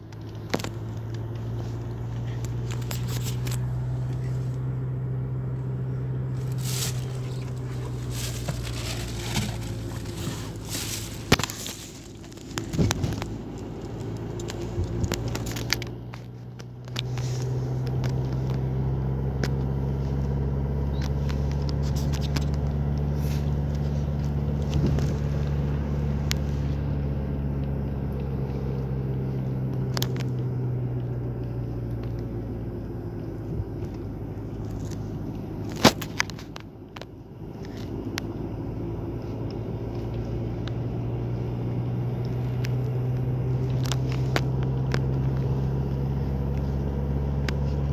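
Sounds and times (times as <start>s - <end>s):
low mechanical hum: 0.0s - 47.9s.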